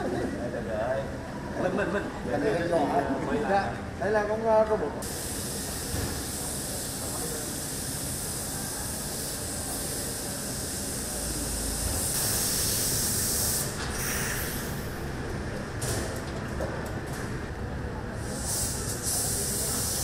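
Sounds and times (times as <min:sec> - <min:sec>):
ventilation hiss: 0:00.0 - 0:16.8, 0:17.4 - 0:20.0.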